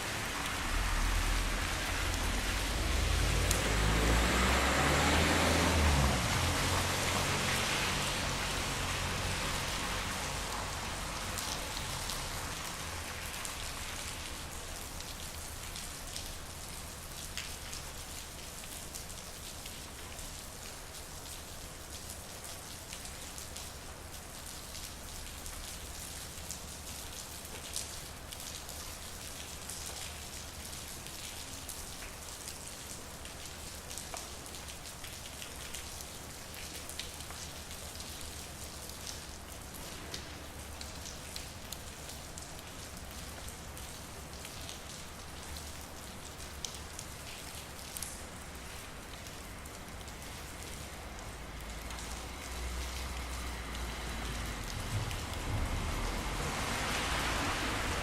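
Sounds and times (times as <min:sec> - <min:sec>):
drips and splashes: 0:00.0 - 0:58.0
rain falling on street: 0:00.0 - 0:58.0.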